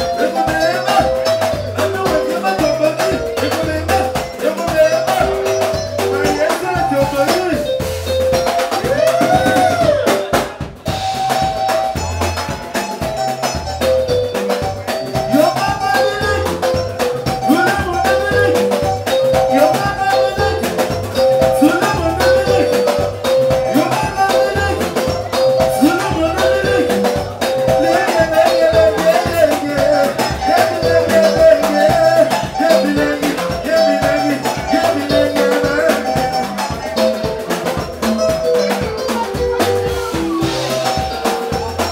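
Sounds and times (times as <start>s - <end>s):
drum kit beat: 0.0s - 41.9s
live band music: 0.0s - 41.9s.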